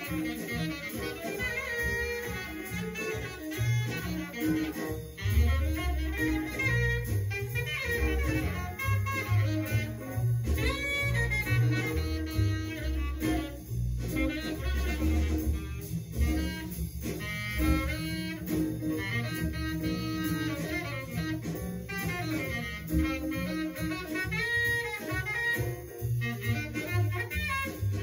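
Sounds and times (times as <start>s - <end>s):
double bass: 0.0s - 28.0s
jazz horns: 0.0s - 28.0s.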